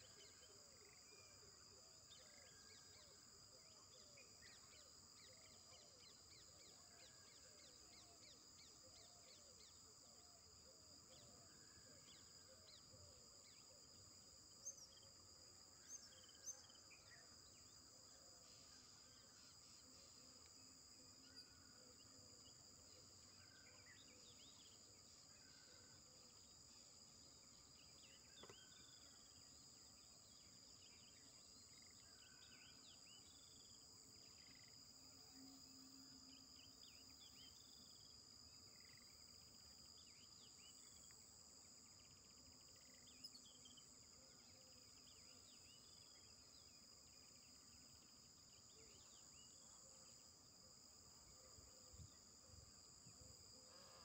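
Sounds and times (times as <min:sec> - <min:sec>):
insect trill: 0:00.0 - 0:54.0.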